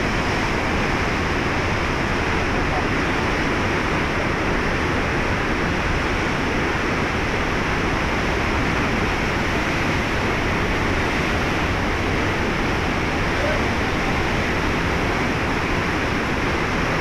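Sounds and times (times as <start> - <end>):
roar of river rapids: 0.0 - 17.0.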